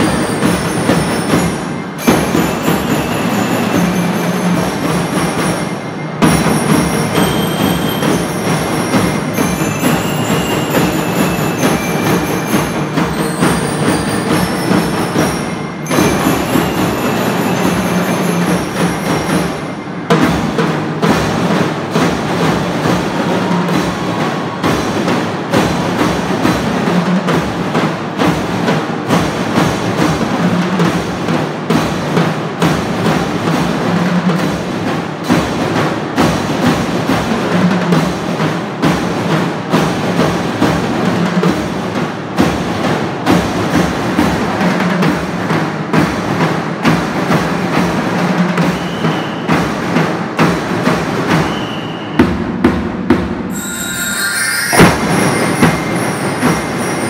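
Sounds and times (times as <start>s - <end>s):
snare drums: 0.0s - 57.0s.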